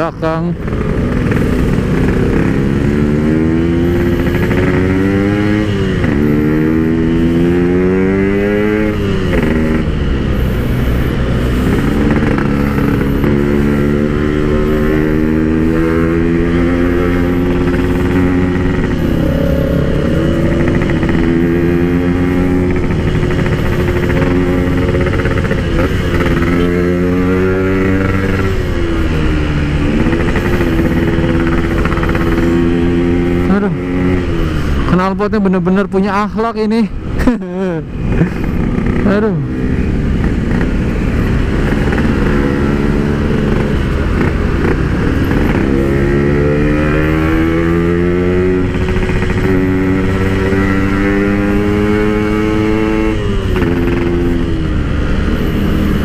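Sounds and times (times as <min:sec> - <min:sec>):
two-stroke motorcycle engine: 0:00.0 - 0:56.0.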